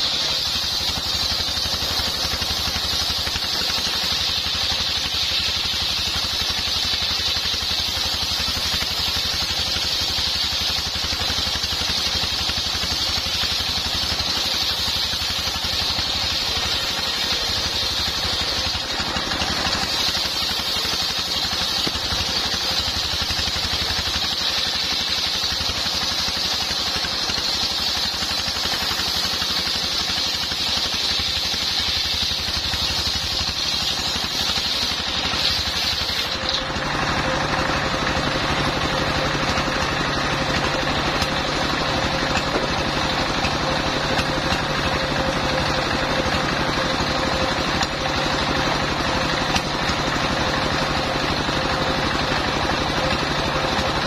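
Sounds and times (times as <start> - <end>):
circular saw cutting wood: 0.0 - 54.0
diesel engine running: 0.0 - 54.0.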